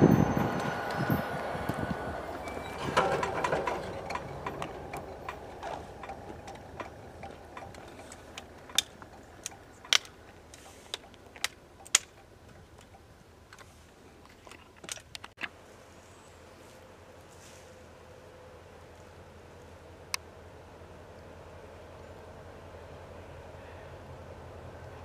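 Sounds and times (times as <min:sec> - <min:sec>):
passing train rumble: 0:00.0 - 0:13.4, 0:16.4 - 0:25.0.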